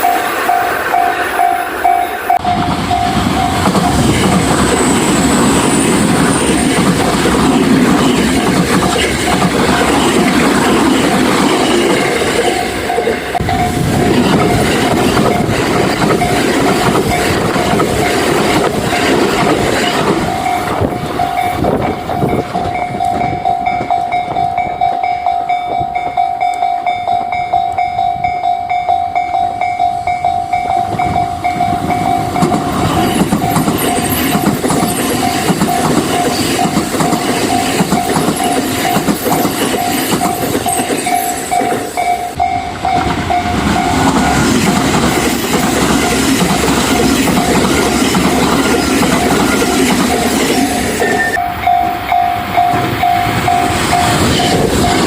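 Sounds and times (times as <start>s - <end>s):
train wheels clattering: 0.0s - 28.0s, 29.8s - 55.0s
level-crossing warning bell: 0.0s - 55.0s.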